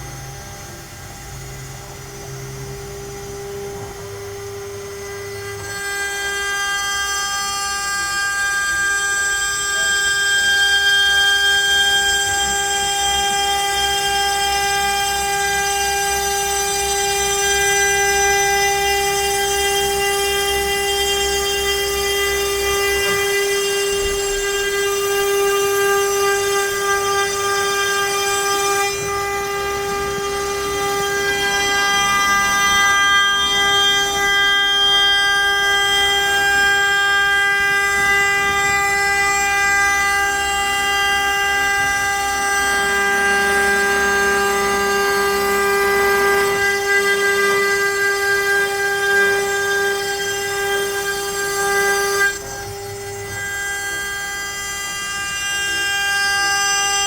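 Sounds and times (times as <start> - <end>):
router motors whining: 0.0 - 57.0
wood cutting noise: 2.4 - 57.0.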